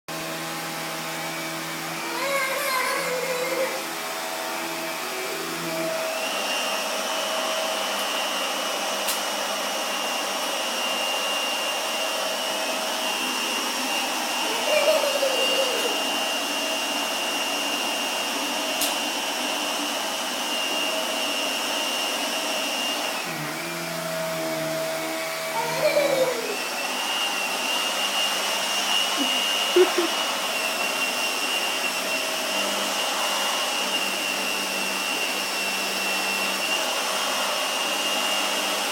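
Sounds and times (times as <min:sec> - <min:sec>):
vacuum cleaner whining: 0:00.1 - 0:38.9.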